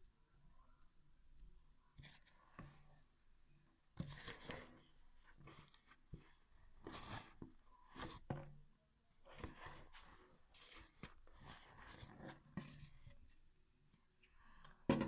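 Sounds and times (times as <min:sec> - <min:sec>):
hands kneading sticky dough: 0:00.0 - 0:14.9.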